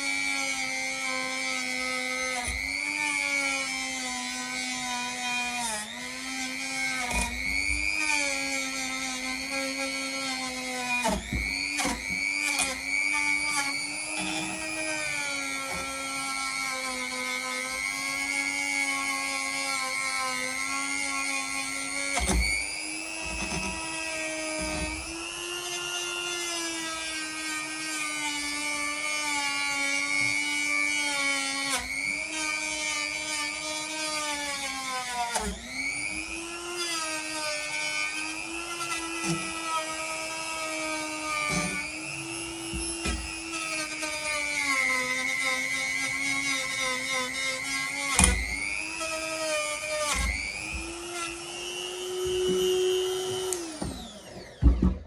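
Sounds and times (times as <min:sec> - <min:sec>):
rotary tool whining: 0:00.0 - 0:55.0.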